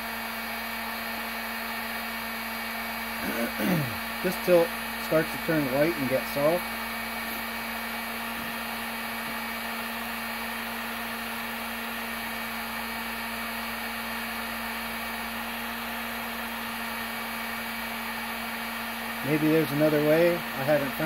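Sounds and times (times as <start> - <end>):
heat gun blowing: 0.2 - 21.0.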